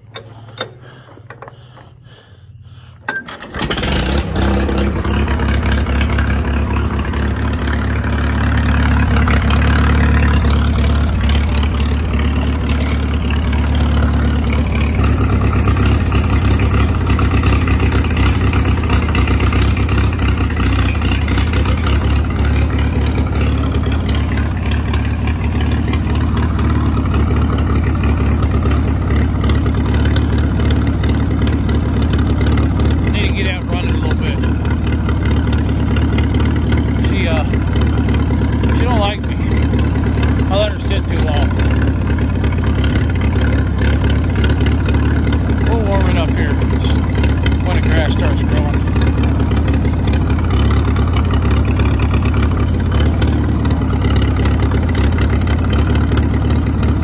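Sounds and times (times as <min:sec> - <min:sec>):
tractor engine starting and running: 0:00.0 - 0:57.0.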